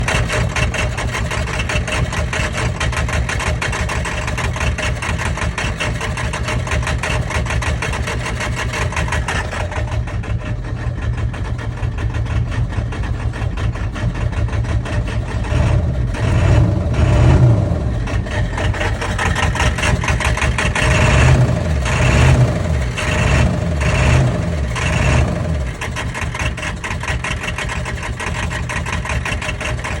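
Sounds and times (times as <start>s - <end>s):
diesel engine running rough: 0.0s - 30.0s.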